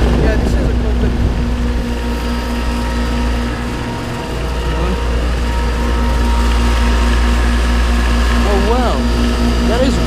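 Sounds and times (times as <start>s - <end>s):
compressor humming: 0.0s - 10.0s
condenser fan rushing: 0.0s - 10.0s
steady tones: 0.0s - 10.0s.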